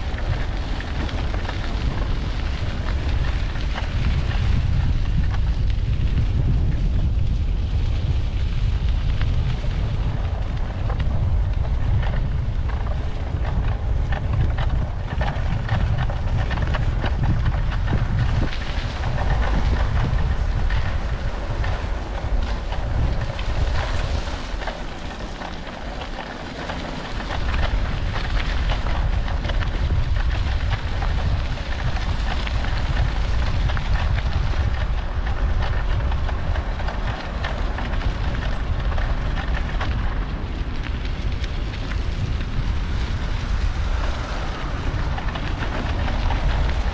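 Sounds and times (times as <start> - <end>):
tyre and road noise: 0.0 - 46.9
wind buffeting microphone: 0.0 - 46.9.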